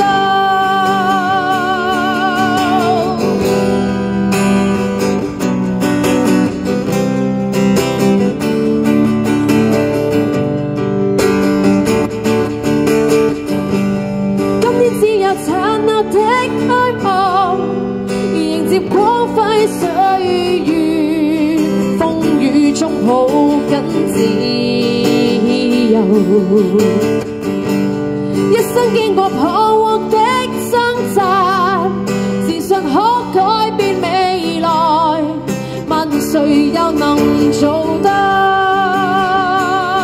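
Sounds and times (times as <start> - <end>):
guitar strumming: 0.0 - 40.0.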